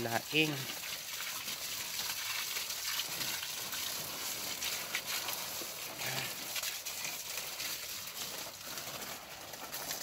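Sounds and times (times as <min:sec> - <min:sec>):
garden hose spraying on leaves: 0:00.0 - 0:10.0.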